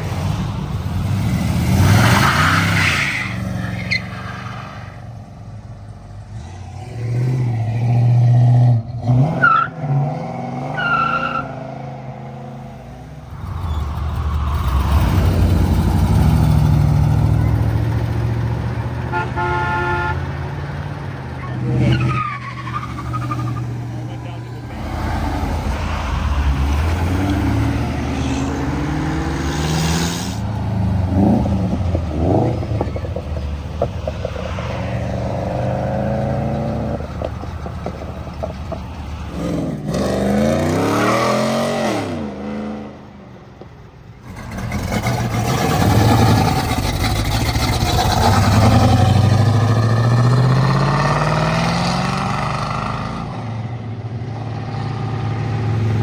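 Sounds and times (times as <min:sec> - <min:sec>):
car engines accelerating: 0:05.8 - 0:56.0.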